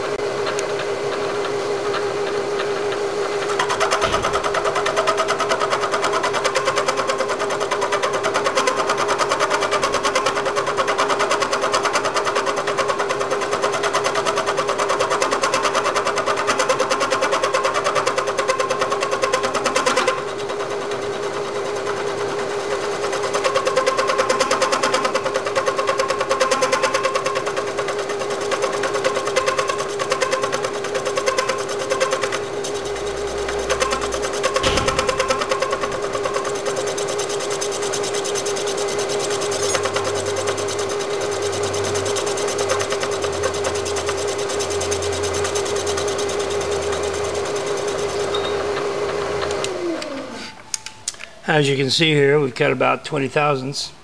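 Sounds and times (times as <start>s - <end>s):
motor hum: 0.0s - 51.4s.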